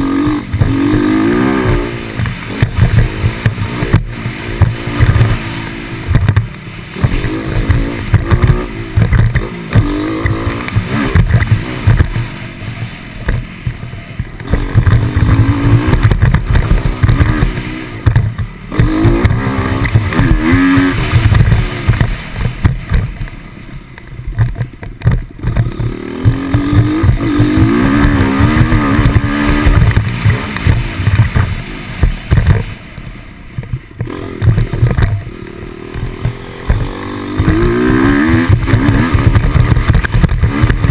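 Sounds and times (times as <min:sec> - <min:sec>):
dirt bike engine revving: 0:00.0 - 0:33.0, 0:33.7 - 0:40.9.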